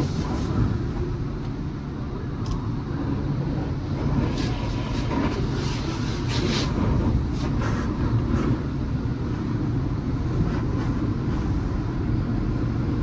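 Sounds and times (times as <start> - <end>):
car wash machinery rumble: 0.0 - 13.0.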